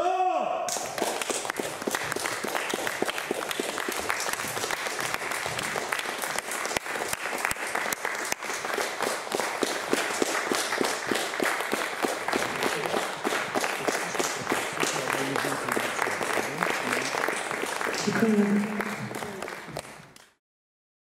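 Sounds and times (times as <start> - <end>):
audience applauding: 0.7 - 20.4.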